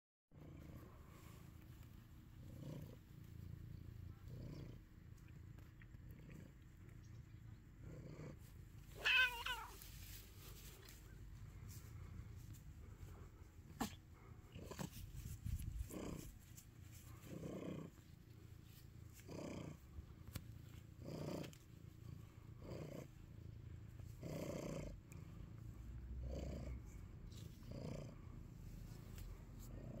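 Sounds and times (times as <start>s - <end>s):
cat purring: 0.4s - 30.0s.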